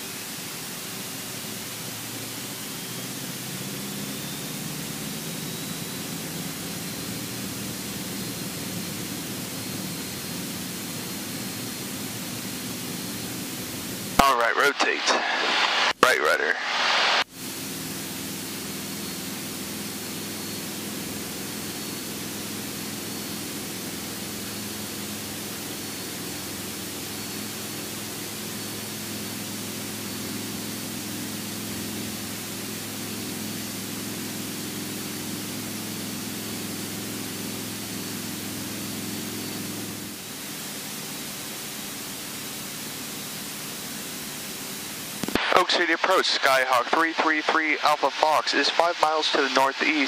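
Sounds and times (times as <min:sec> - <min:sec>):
propeller plane engine drone: 0:00.0 - 0:50.0.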